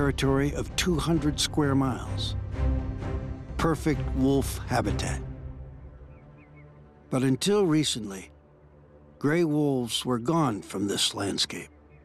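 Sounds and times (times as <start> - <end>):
low sustained music tones: 0.0 - 12.0.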